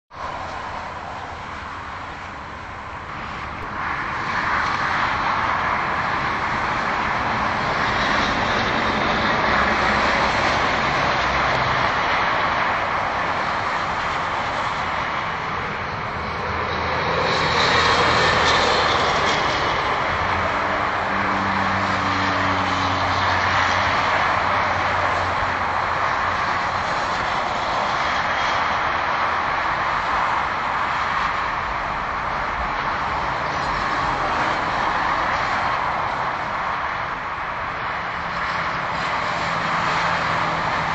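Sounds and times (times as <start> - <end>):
highway traffic rushing: 0.1 - 40.9
louder vehicle passing: 0.2 - 40.9.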